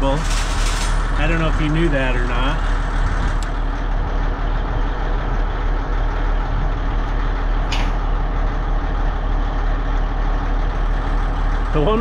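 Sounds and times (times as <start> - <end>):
heavy engine idling: 0.0 - 12.0.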